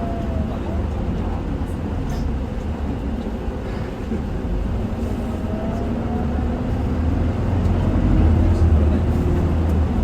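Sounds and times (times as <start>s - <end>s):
bus diesel engine rumble: 0.0s - 10.0s.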